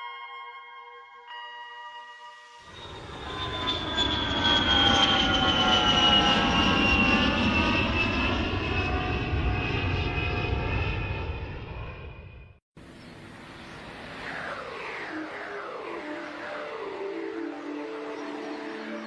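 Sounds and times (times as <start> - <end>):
airplane flying past: 2.7 - 19.0.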